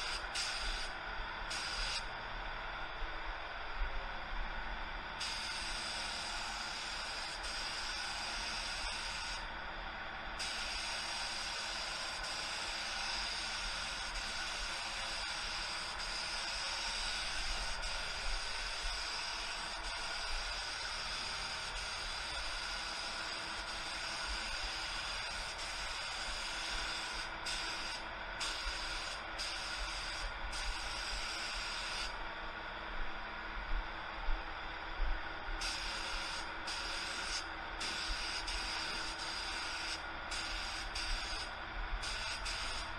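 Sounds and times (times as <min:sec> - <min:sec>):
paint spray gun hissing: 0:00.0 - 0:00.9, 0:01.5 - 0:02.1, 0:05.2 - 0:09.5, 0:10.4 - 0:32.1, 0:35.6 - 0:42.9.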